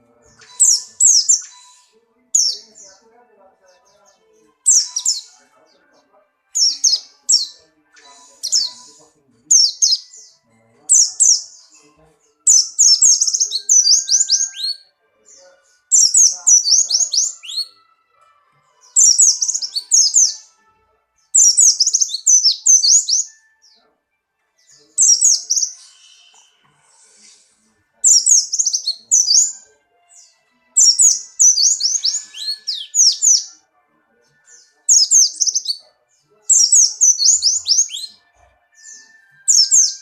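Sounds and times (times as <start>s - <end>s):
bird singing high rapid notes: 0.0s - 3.0s, 3.7s - 5.4s, 6.5s - 17.7s, 18.8s - 20.6s, 21.2s - 23.8s, 24.6s - 26.6s, 28.0s - 33.6s, 34.5s - 35.8s, 36.5s - 38.2s, 38.8s - 40.0s.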